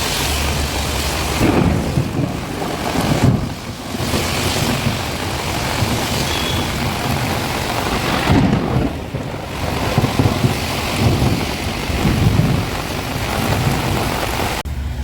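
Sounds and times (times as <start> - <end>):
heavy rain pouring: 0.0 - 14.6
low rumbling: 0.0 - 15.0.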